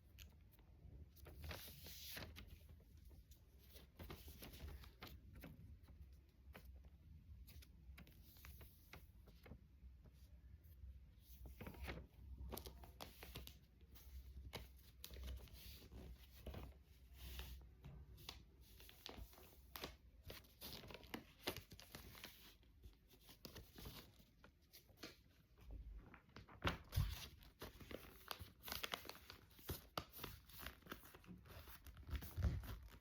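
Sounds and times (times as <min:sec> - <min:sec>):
paper being folded and creased: 0:01.1 - 0:10.2, 0:11.2 - 0:33.0.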